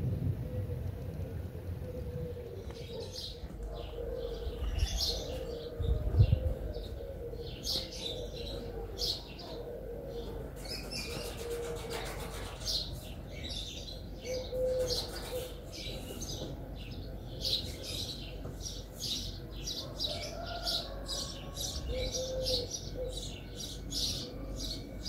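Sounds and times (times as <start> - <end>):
birds chirping: 0.4 - 25.0.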